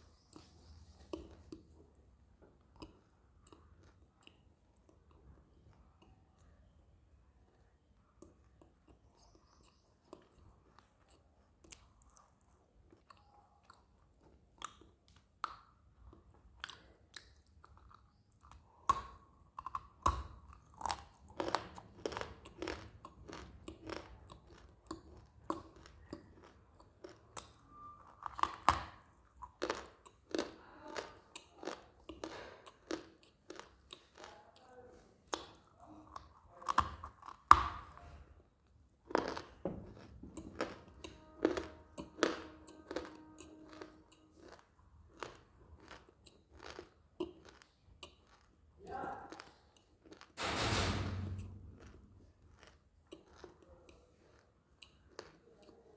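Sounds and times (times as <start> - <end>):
person chewing hard crunchy clay: 0.0 - 6.5, 8.0 - 50.4, 51.8 - 55.9.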